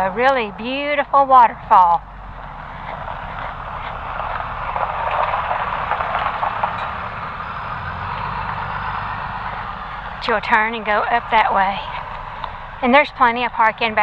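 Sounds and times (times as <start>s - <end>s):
vehicle driving past: 0.0s - 14.0s.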